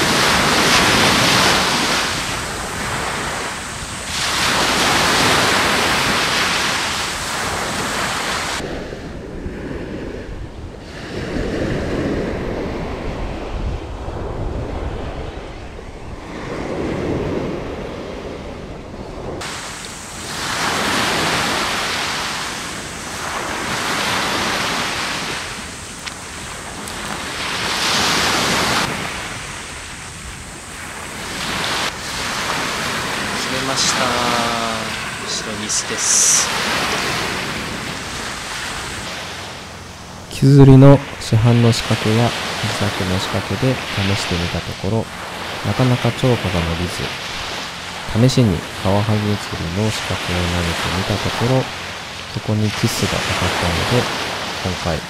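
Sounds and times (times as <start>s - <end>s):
wind buffeting microphone: 0.0s - 49.9s
surf breaking on beach: 0.0s - 55.0s.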